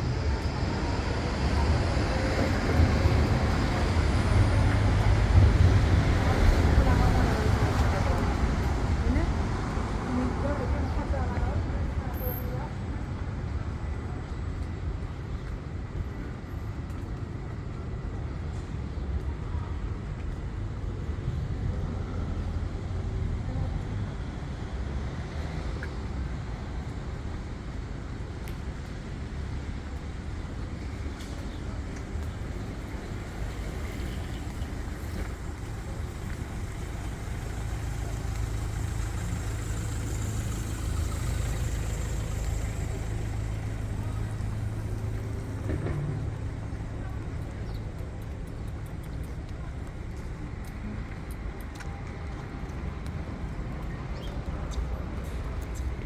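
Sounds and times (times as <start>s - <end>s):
city noise: 0.0s - 56.0s
road traffic rumble: 0.0s - 56.0s.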